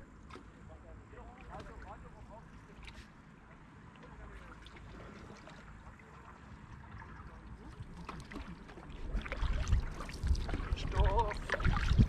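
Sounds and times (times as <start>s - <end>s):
water lapping along canoe hull: 0.0s - 12.0s
soft paddle splashes and knocks: 0.2s - 0.6s, 1.2s - 12.0s.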